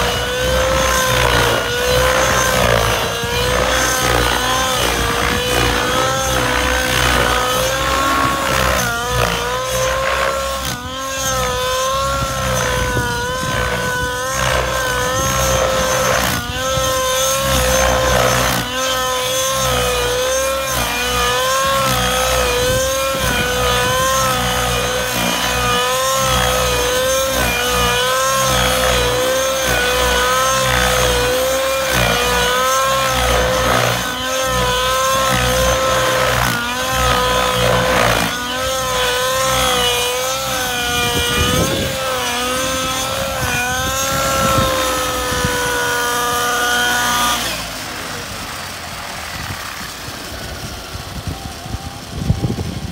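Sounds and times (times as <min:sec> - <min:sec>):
rc helicopter engine whine: 0:00.0 - 0:52.9.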